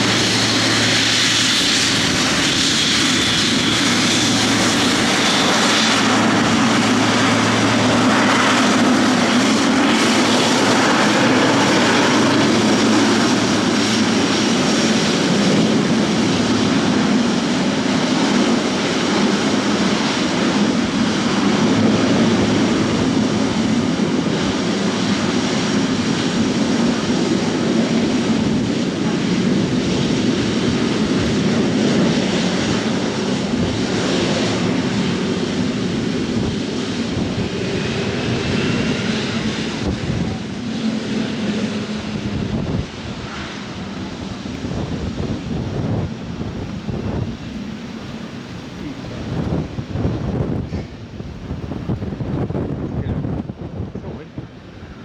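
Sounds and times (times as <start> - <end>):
jet engines roaring: 0.0 - 55.0
wind buffeting microphone: 0.0 - 55.0.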